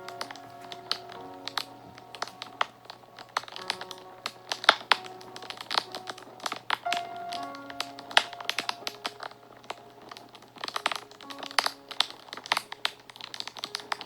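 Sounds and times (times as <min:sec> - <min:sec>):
soft background music: 0:00.0 - 0:14.0
wood fire crackling and popping: 0:00.0 - 0:14.0.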